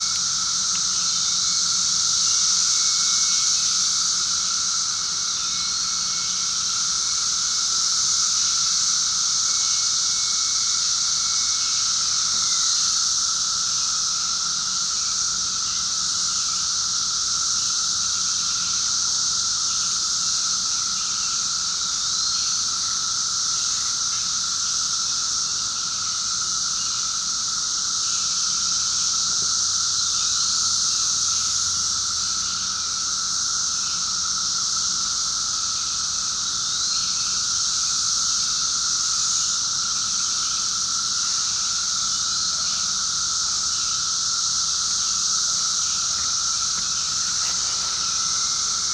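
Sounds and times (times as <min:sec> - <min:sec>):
cicadas buzzing: 0:00.0 - 0:48.9.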